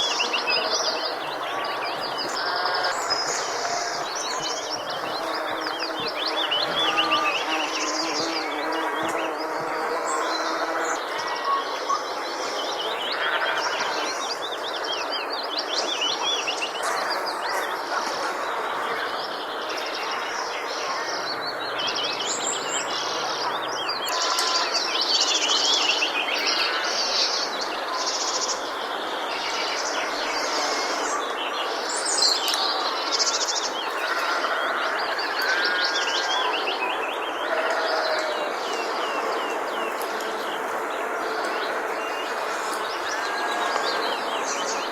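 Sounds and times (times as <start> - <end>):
birds chirping and singing: 0.0 - 44.9.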